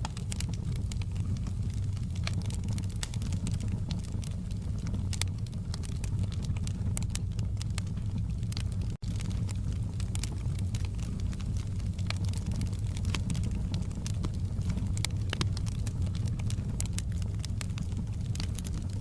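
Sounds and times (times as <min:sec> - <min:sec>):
burning wood crackling and popping: 0:00.0 - 0:19.0
low rumble of flame: 0:00.0 - 0:19.0.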